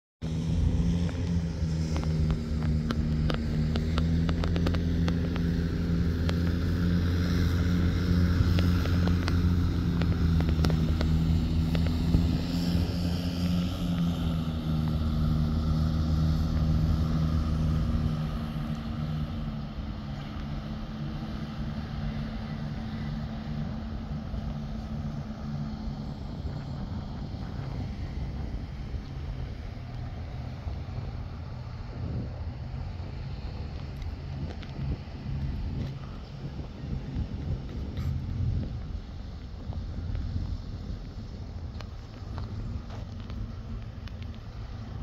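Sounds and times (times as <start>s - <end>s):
diesel construction machinery engine: 0.2s - 45.0s.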